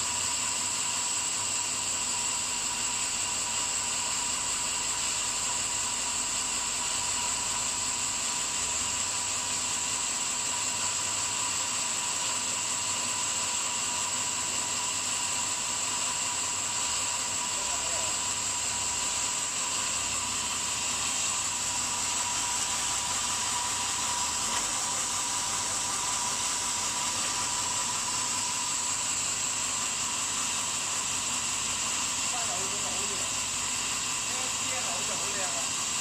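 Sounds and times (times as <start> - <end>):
power saw whine: 0.0 - 36.0.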